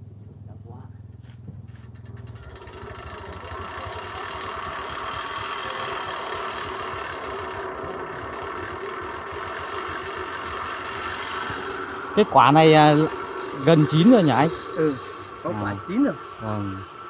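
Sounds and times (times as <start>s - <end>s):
cable winch whirring and rattling: 1.5s - 17.0s.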